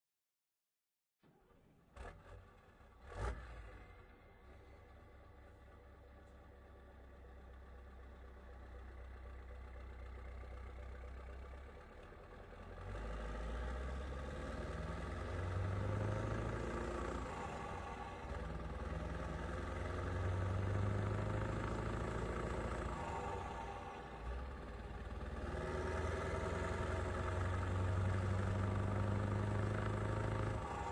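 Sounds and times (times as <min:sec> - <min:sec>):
diesel engine revving: 0:01.9 - 0:06.4, 0:07.8 - 0:30.9.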